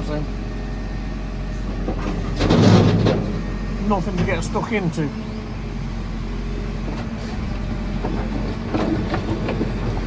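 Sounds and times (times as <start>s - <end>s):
backhoe diesel engine running: 0.0s - 10.0s.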